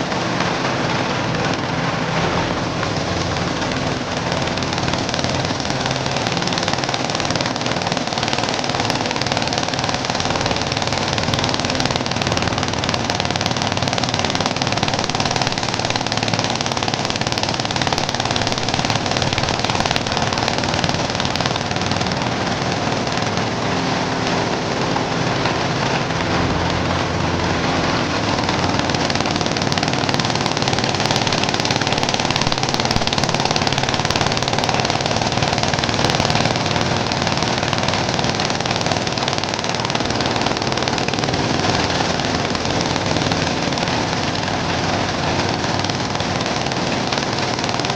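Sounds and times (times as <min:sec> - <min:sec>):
corn sheller machine noise: 0:00.0 - 0:47.9
engine hum: 0:00.0 - 0:47.9.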